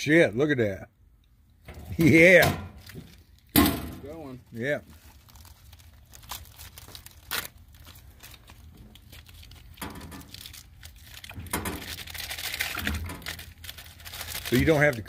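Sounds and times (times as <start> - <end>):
plastic package crinkling: 2.7 - 15.0.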